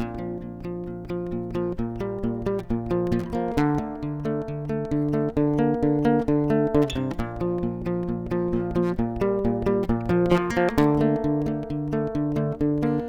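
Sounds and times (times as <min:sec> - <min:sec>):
plucked acoustic guitar: 0:00.0 - 0:13.0.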